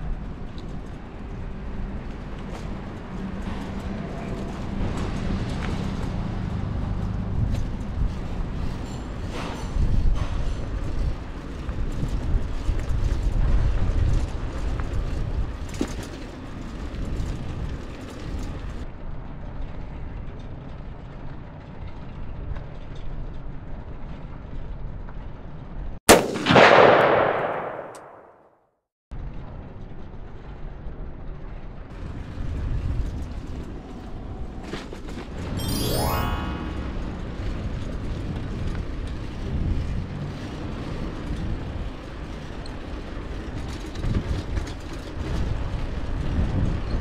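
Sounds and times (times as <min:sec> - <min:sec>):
street ambience low rumble: 0:00.0 - 0:28.2, 0:29.1 - 0:35.5, 0:36.8 - 0:47.0.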